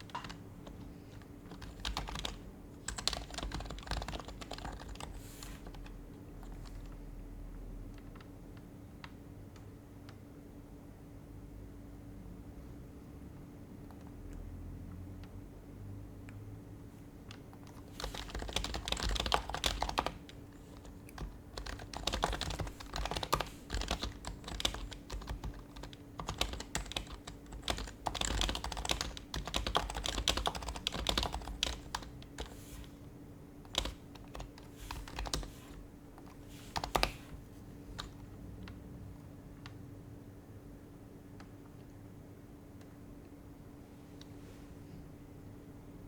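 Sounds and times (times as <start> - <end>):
soft muted keyboard typing: 0.0 - 10.4, 13.8 - 15.4, 17.0 - 40.0, 41.2 - 43.4.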